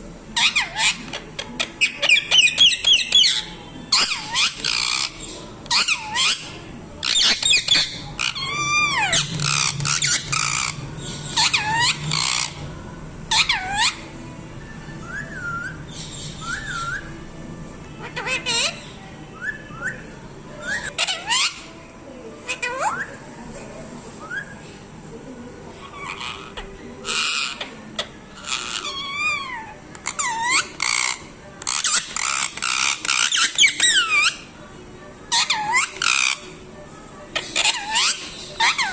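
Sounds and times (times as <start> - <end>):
parrot squawking and whistling: 0.4 - 12.6, 13.3 - 14.2, 15.0 - 17.2, 18.0 - 21.7, 22.4 - 23.6, 25.8 - 34.5, 35.3 - 36.5, 37.3 - 38.9.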